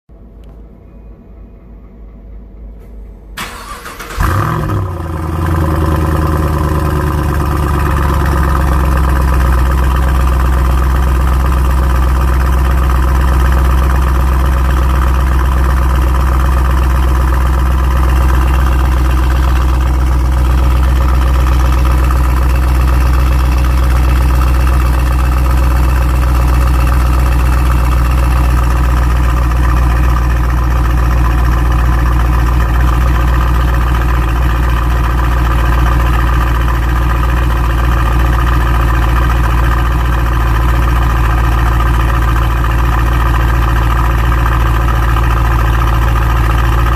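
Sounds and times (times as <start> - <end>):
car engine cranking and starting: 3.4 - 46.9
loud engine idle through exhaust: 4.1 - 46.9.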